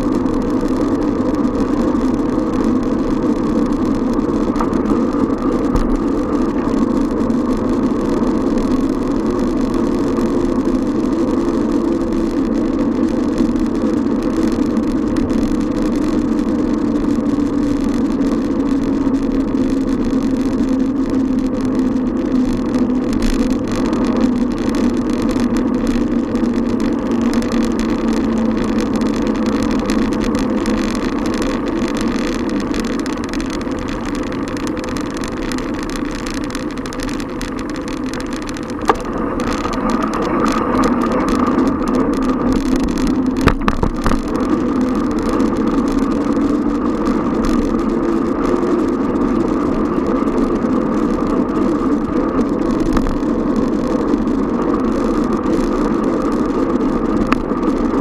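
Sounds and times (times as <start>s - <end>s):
bicycle running noise: 0.0s - 58.0s.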